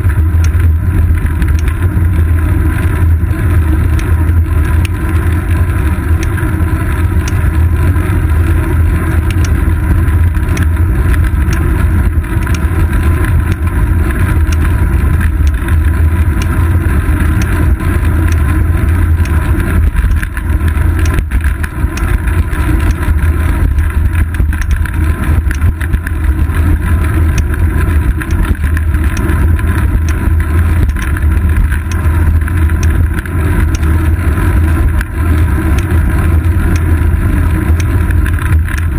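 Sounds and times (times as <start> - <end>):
bicycle road rumble: 0.0 - 38.9.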